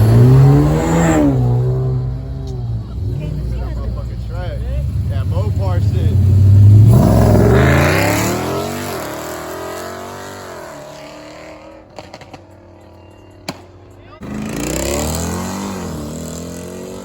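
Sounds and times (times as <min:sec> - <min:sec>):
car accelerating hard: 0:00.0 - 0:12.7, 0:14.2 - 0:17.0.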